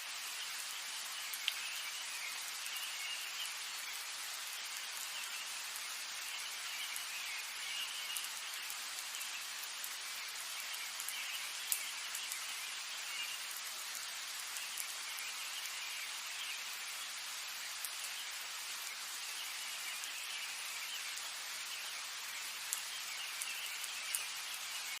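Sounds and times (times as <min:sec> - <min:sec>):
sharp raindrops striking close: 0:00.0 - 0:25.0
steady rain falling: 0:00.0 - 0:25.0.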